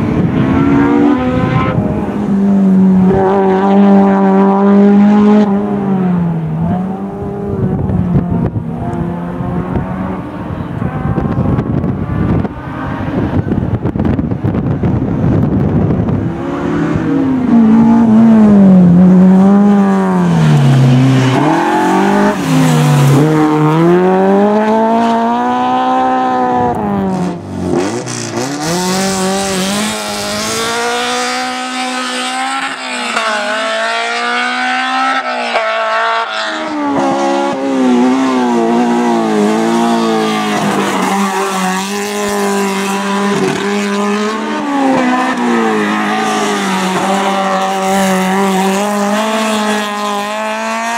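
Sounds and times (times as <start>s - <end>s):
car engine revving hard: 0.0s - 14.2s, 15.8s - 50.9s.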